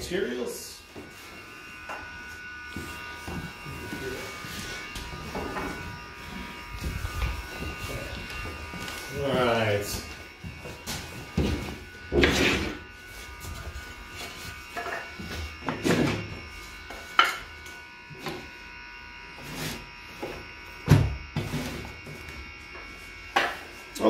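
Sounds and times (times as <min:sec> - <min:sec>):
steady electrical buzz: 0:00.0 - 0:24.0.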